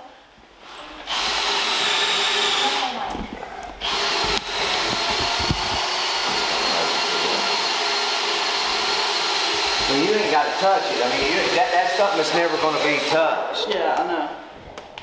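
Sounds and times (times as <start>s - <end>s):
small electric fan motor whining: 0.6s - 13.4s.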